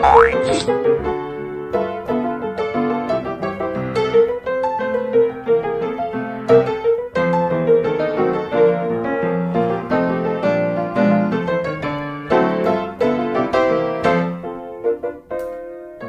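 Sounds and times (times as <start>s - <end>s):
light piano music: 0.0s - 16.0s.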